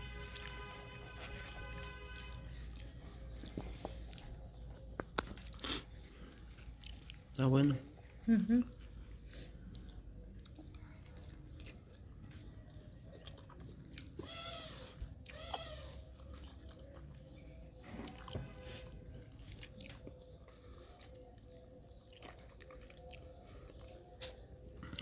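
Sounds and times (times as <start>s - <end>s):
person chewing: 0.0s - 25.0s.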